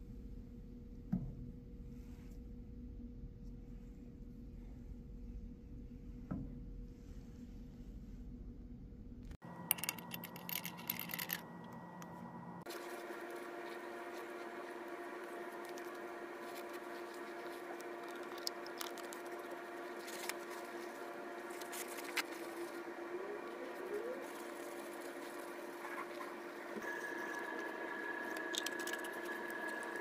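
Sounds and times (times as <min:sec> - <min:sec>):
steady hum of constant tones: 0:00.0 - 0:30.0.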